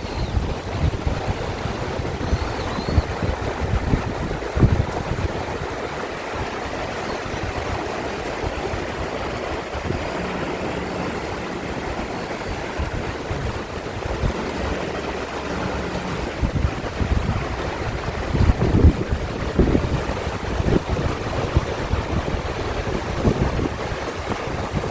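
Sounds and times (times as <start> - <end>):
stream water rushing: 0.0 - 24.9
wind buffeting microphone: 0.0 - 24.9.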